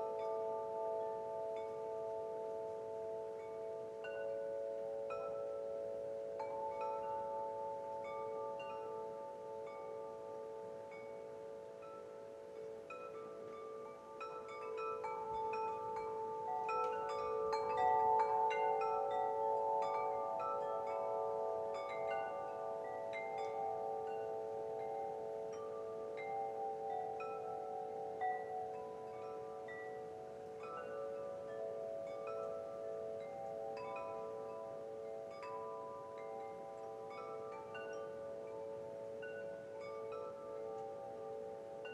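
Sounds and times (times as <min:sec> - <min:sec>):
wind chimes ringing: 0:00.0 - 0:41.9.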